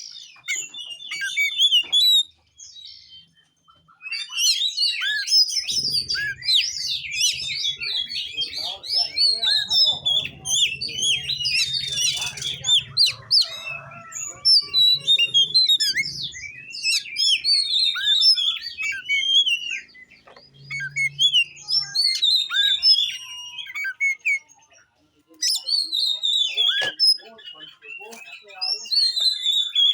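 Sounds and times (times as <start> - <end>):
bird singing whistles and chirps: 0.0 - 24.8, 25.4 - 29.9.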